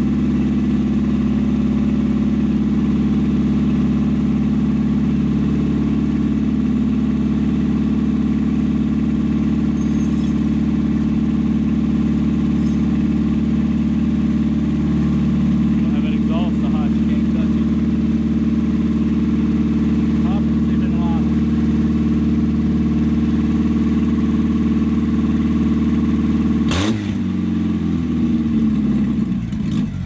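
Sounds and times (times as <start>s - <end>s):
car engine running unevenly: 0.0s - 30.0s.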